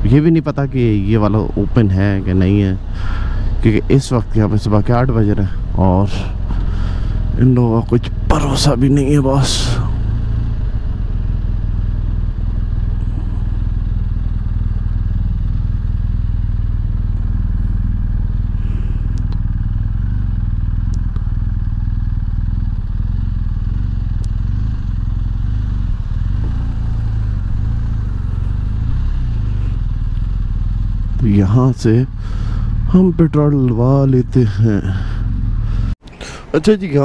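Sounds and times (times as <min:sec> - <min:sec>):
motorcycle engine at low revs: 0:00.0 - 0:36.0.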